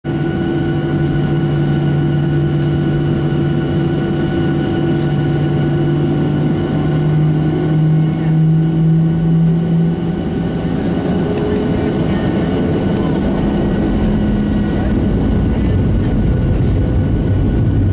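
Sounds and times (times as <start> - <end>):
jet engines droning in cabin: 0.1 - 17.9.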